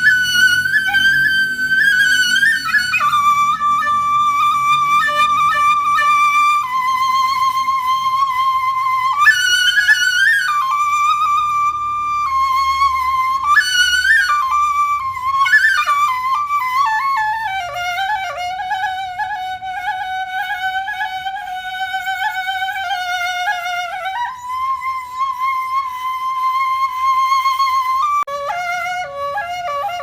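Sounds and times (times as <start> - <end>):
flute-like slow melody: 0.0 - 30.0.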